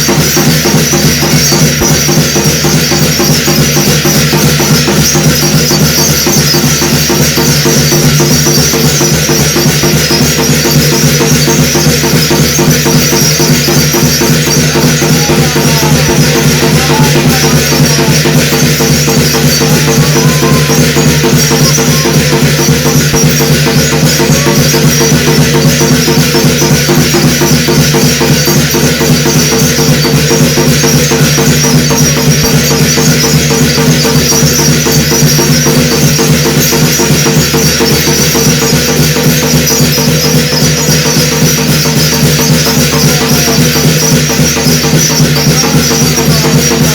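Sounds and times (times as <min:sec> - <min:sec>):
fast steady drumming: 0:00.0 - 0:46.9
high metallic shimmer: 0:00.0 - 0:46.9.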